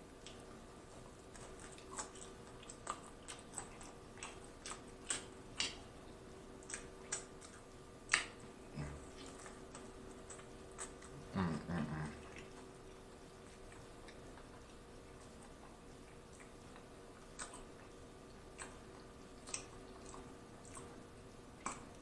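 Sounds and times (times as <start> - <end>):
chewing mouth clicks and smacks: 0.2 - 22.0.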